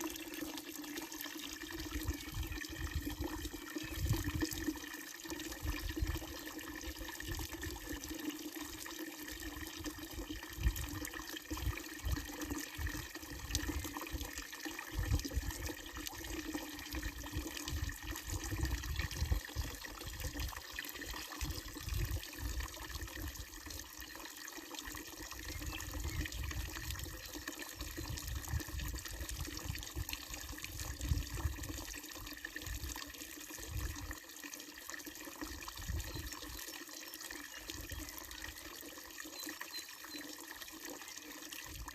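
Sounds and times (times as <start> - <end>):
water pouring into fountain basin: 0.0 - 41.9.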